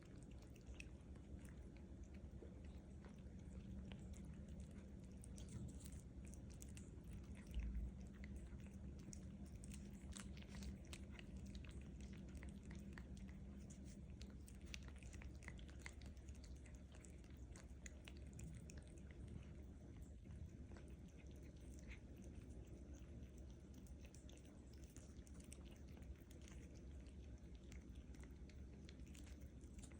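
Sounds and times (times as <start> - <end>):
kittens chewing: 0.0 - 29.9.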